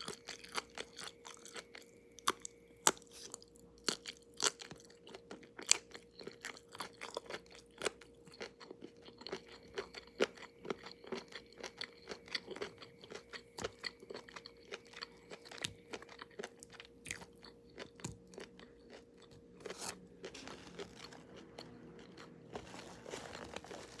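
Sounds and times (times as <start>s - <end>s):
person chewing crunchy food: 0.0s - 24.0s.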